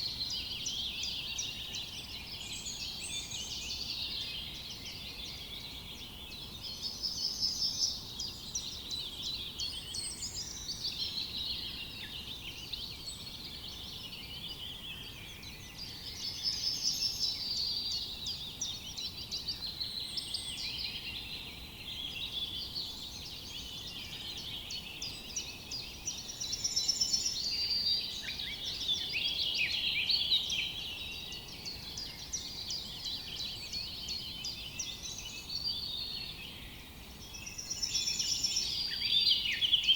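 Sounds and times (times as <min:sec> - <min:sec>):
forest background hiss: 0:00.0 - 0:39.9
songbirds singing and chirping: 0:00.0 - 0:39.9.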